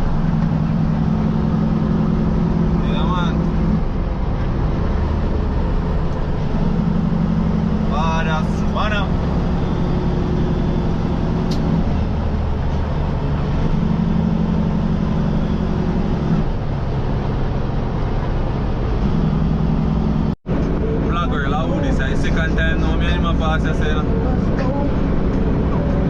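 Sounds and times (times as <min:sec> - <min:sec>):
diesel truck engine driving: 0:00.0 - 0:26.0.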